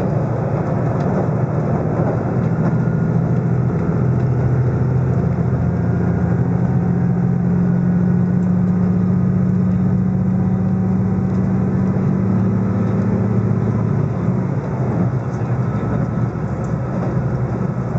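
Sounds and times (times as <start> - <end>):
train engine drone: 0.0 - 17.9
train running noise: 0.0 - 17.9.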